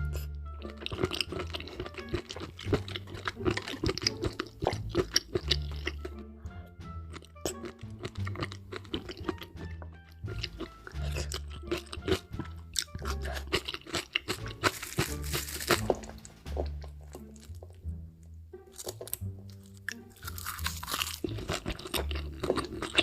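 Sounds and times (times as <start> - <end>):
crunchy chewing: 0.0 - 6.2, 7.1 - 17.8, 18.7 - 23.0
background music with bass line: 0.0 - 23.0.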